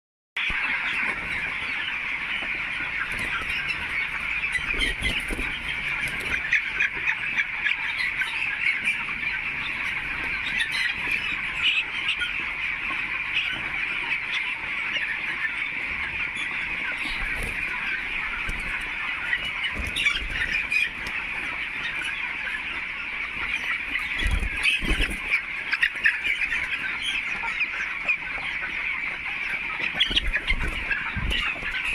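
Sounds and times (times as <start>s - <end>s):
chicks peeping: 0.4s - 31.9s.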